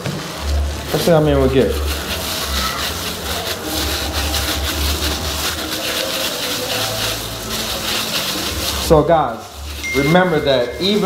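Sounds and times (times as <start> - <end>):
hands squishing wet mixture: 0.0 - 11.0.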